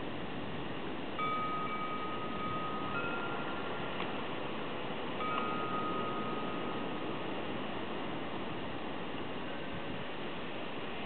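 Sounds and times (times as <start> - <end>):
steady background noise: 0.0 - 11.0
bronze wind bells ringing: 0.8 - 10.0.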